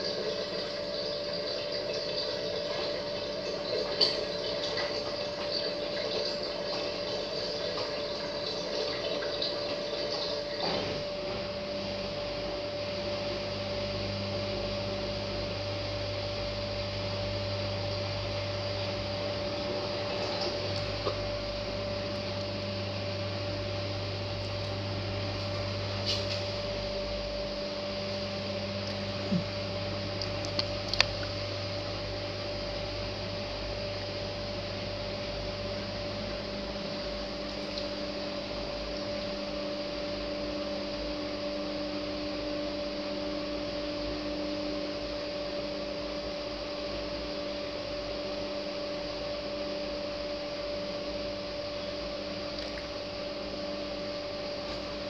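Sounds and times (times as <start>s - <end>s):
water sloshing in washing machine: 0.0s - 41.6s, 52.4s - 55.0s
washing machine low hum: 0.0s - 55.0s.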